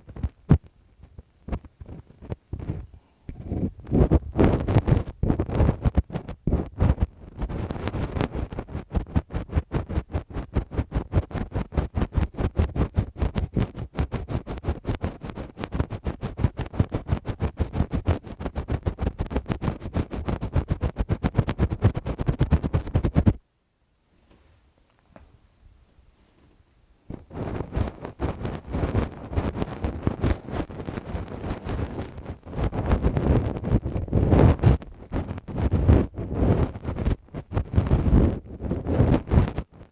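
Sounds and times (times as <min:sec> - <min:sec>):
fingers scratching on microphone: 0:00.0 - 0:23.4, 0:27.1 - 0:39.9.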